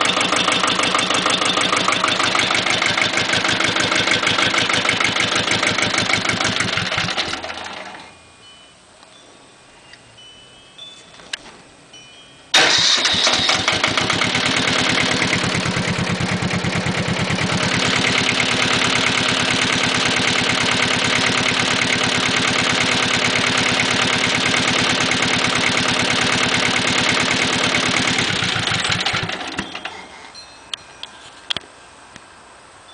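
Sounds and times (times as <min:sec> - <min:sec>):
diesel tractor engine clattering: 0:00.0 - 0:08.1, 0:12.6 - 0:30.8.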